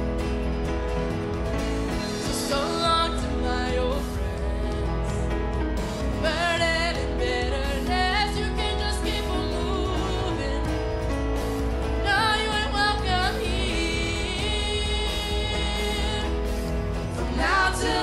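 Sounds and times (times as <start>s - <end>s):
band accompaniment: 0.0s - 18.0s
electric bass: 0.0s - 18.0s
woman singing into microphone: 2.2s - 11.2s, 11.9s - 18.0s.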